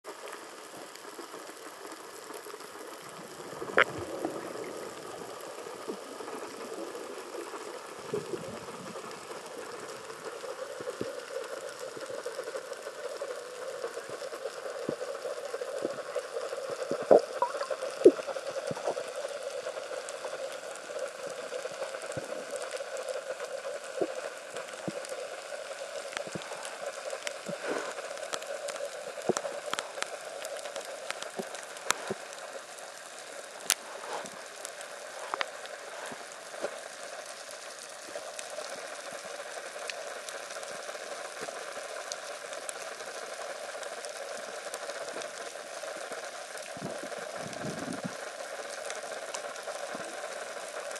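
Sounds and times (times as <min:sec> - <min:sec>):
sharp clicks and crackles: 0:00.1 - 0:50.9
underwater hiss: 0:00.2 - 0:50.9.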